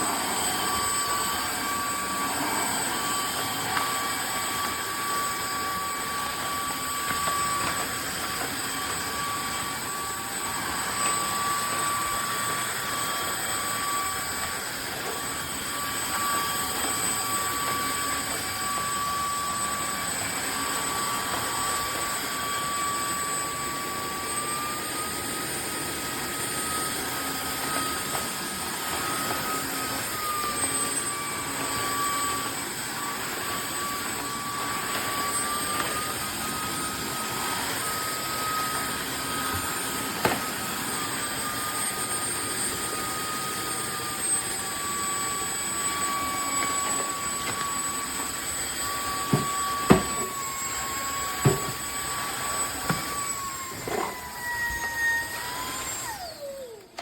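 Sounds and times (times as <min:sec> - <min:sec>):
floor cleaner motor whine: 0:00.0 - 0:57.0.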